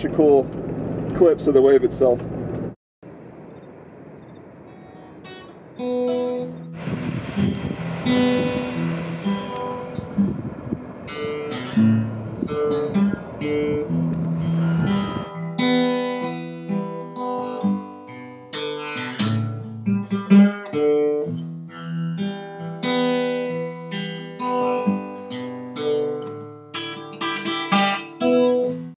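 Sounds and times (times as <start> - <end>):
acoustic guitar plucking: 4.6 - 29.0.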